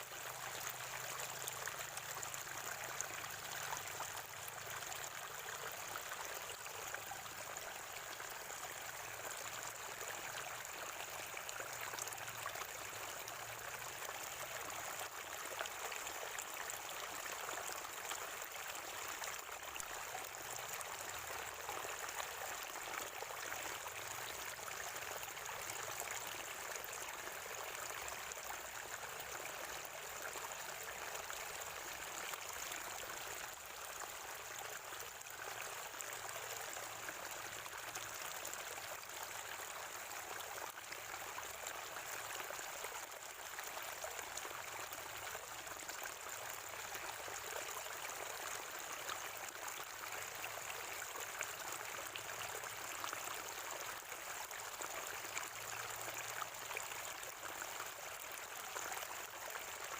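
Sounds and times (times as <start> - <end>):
spring water gurgling over stones: 0.0 - 59.9.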